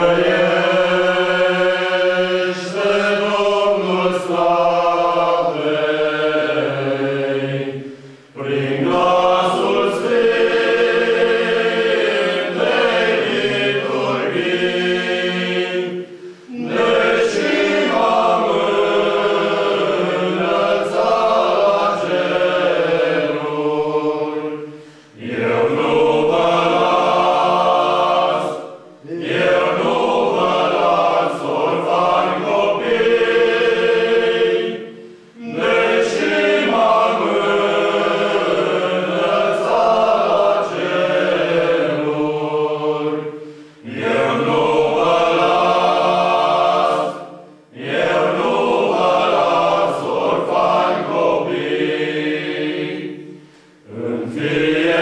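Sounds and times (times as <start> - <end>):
male choir singing a cappella: 0.0 - 55.0.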